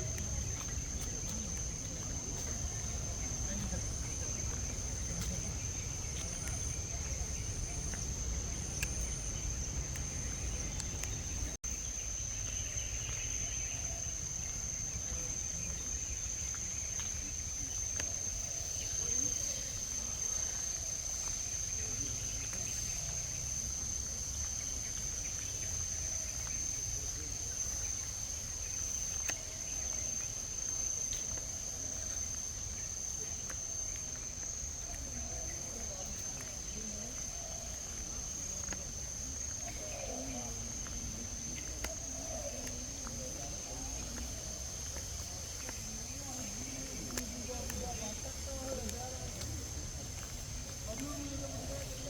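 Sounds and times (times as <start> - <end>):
forest insects buzzing: 0.0 - 52.0.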